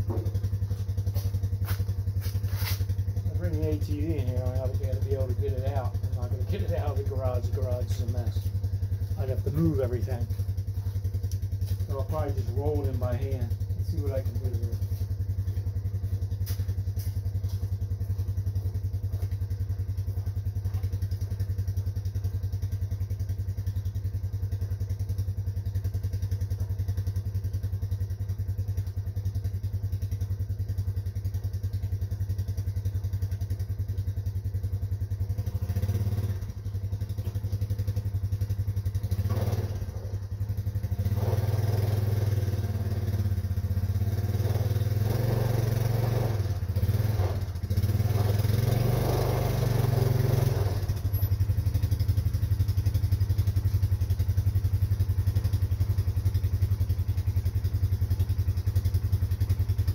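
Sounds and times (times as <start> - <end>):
clatter: 0.0 - 59.9
small engine idling and revving: 0.0 - 59.9.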